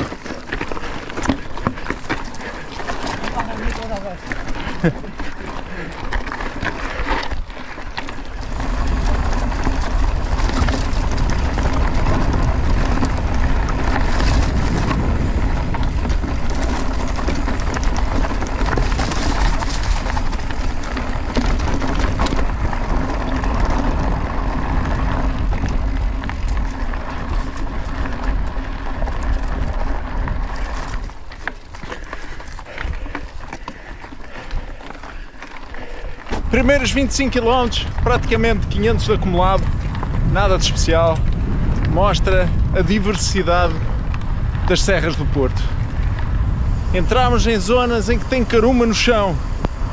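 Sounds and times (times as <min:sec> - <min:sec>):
bike rattling: 0:00.0 - 0:49.9
bike tyres rolling over gravel: 0:00.0 - 0:49.9
wind rumble on microphone: 0:00.0 - 0:49.9.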